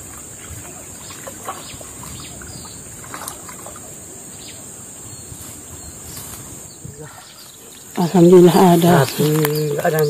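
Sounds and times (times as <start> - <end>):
river water splashing: 0.0 - 10.0.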